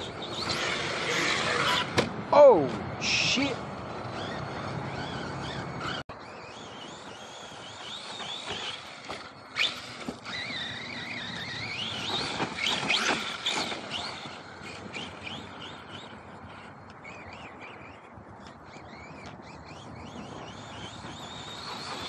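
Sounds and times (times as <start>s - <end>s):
rc truck electric motor whine: 0.0s - 2.1s, 3.0s - 22.0s.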